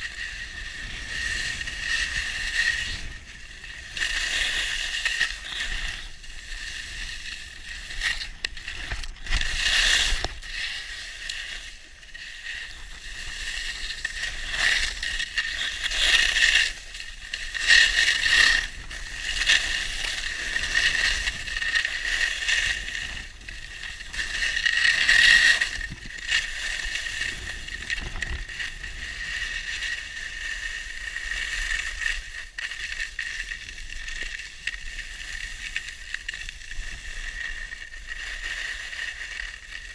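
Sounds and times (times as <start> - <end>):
skis carving on packed snow: 0.0 - 39.9.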